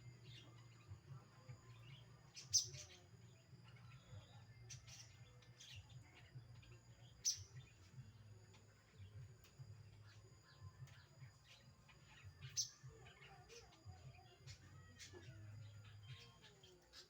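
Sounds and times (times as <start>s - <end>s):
bird chirping: 0.0s - 17.0s
faint low hum: 0.0s - 17.0s.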